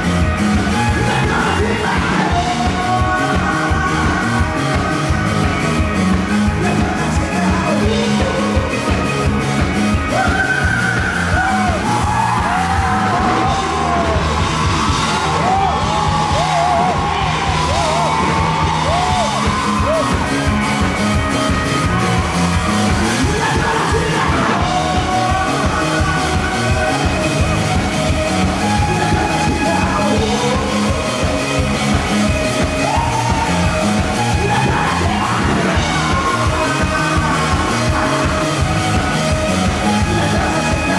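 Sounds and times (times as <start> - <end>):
drums and bass: 0.0 - 40.9
electric guitar lead line: 0.0 - 40.9.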